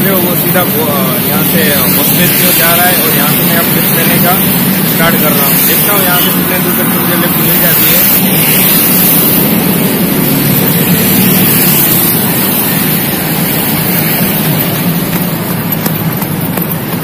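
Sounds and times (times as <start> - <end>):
highway traffic passing: 0.0 - 17.0.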